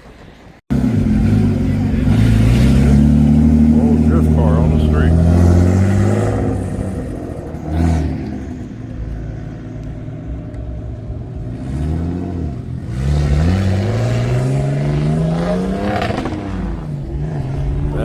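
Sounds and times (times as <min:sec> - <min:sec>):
car engine revving: 0:00.7 - 0:18.0.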